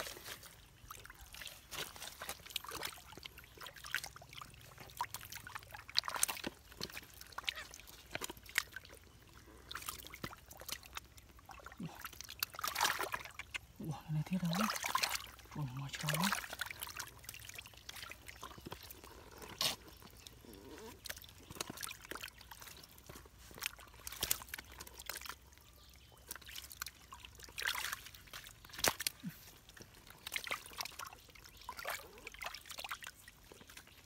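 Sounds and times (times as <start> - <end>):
hand sloshing through muddy water: 0.0 - 34.0.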